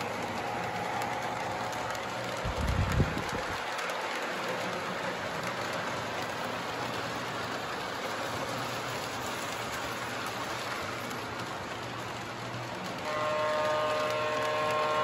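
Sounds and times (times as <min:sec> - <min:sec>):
model trains rolling on tracks: 0:00.0 - 0:15.0.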